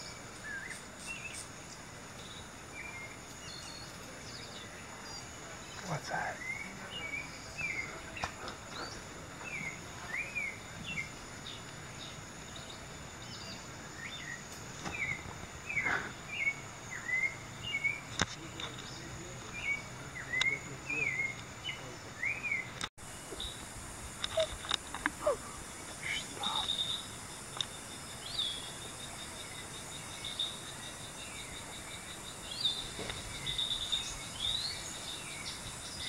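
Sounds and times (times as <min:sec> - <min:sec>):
steady high hiss: 0:00.0 - 0:36.0
wild birds chirping: 0:00.0 - 0:36.0.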